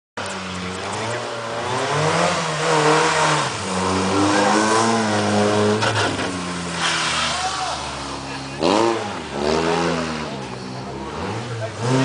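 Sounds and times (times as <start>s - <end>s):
car engine revving hard: 0.4s - 12.0s.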